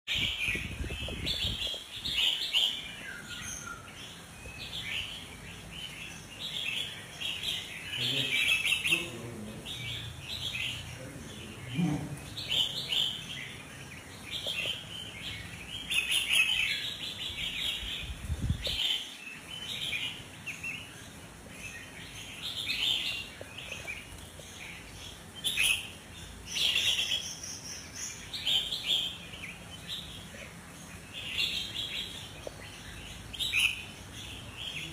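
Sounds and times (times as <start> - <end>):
bulbul singing: 0.1 - 34.9.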